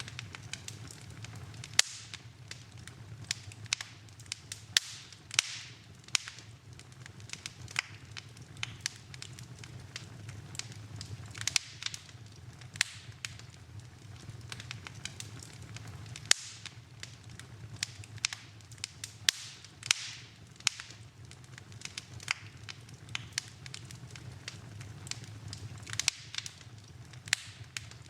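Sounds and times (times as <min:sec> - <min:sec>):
low steady hum: 0:00.0 - 0:28.0
wood fire crackling: 0:00.0 - 0:28.0.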